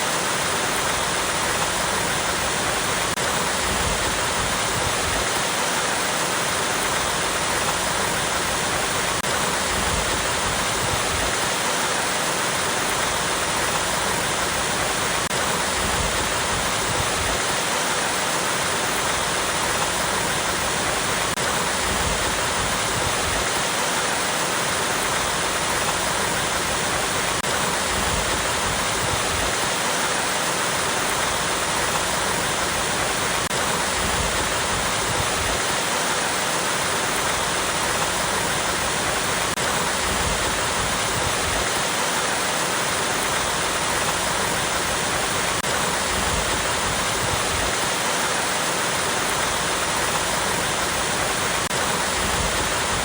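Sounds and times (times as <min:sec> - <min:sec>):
waterfall over rocks: 0:00.0 - 0:53.0.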